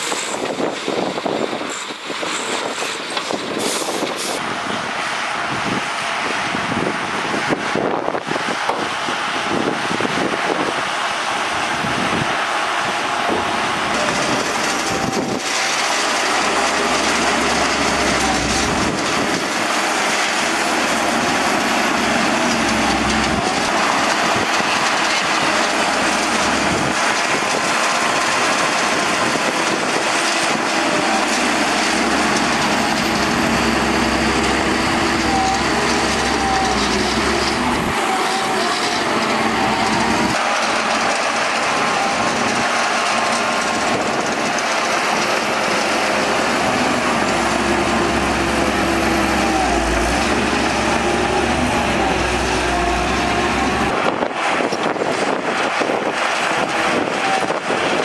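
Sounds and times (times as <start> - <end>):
bulldozer diesel engine under load: 0.0 - 58.0
steel tracks rolling over soil: 0.0 - 58.0.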